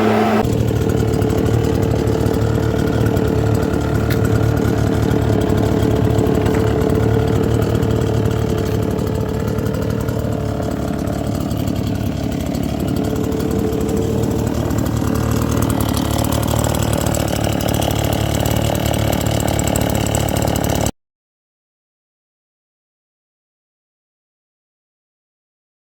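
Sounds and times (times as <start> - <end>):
small petrol engine running: 0.0 - 21.0.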